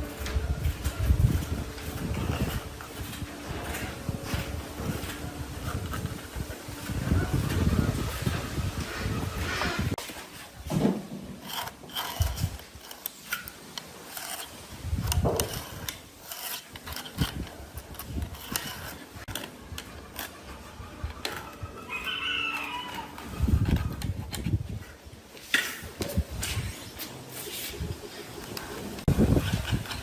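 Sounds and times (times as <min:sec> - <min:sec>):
knocks and scraping on wood: 0:00.0 - 0:30.0.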